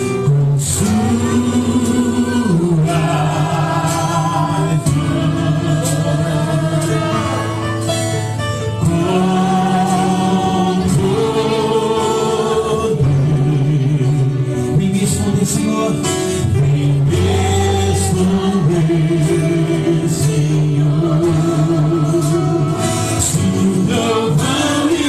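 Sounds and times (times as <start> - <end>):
instrumental accompaniment: 0.0 - 25.0
voices singing held notes: 0.4 - 25.0.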